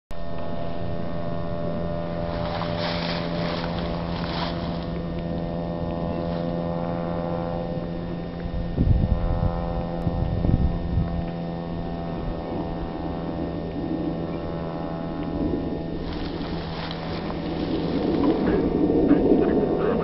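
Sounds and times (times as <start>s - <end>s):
low mechanical hum: 0.1s - 20.0s.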